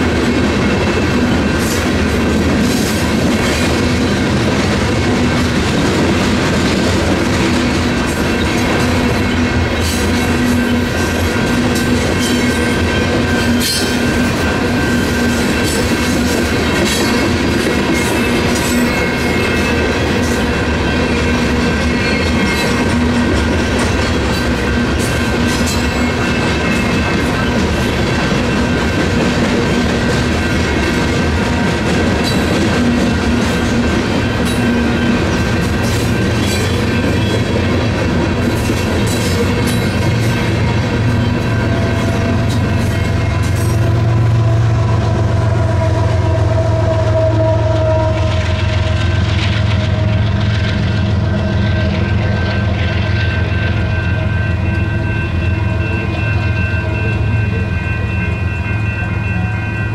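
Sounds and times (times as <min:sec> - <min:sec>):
crossing bells ringing: 0:00.0 - 0:59.9
freight train rolling: 0:00.0 - 0:59.9.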